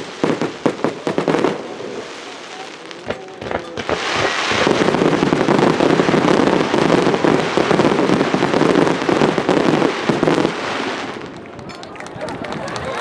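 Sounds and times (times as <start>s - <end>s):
firework bangs: 0.0s - 13.0s
fireworks crackling: 0.0s - 13.0s.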